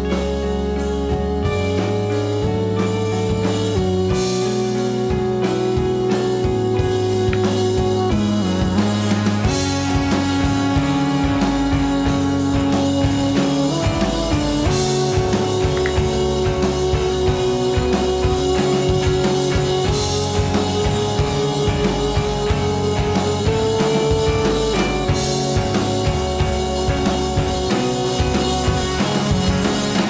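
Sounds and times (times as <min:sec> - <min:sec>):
rock music with drum beat: 0:00.0 - 0:30.0.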